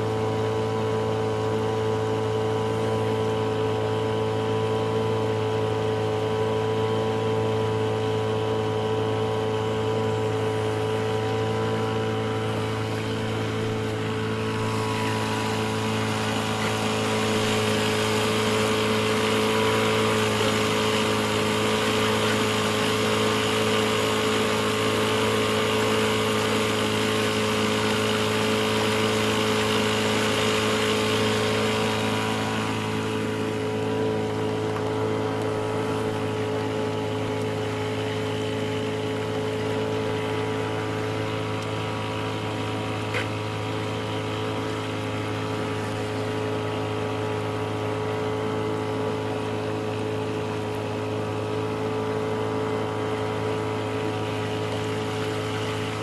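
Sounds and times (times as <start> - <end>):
outboard motor humming: 0.0 - 56.0
water rushing along hull: 0.0 - 56.0.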